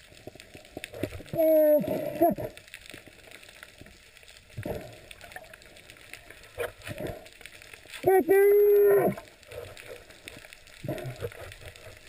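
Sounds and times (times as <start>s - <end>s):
faint crackling underwater hiss: 0.0s - 12.0s.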